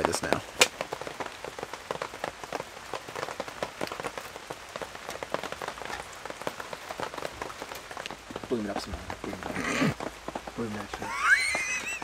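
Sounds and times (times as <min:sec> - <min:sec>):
rain drumming on canopy: 0:00.0 - 0:12.0.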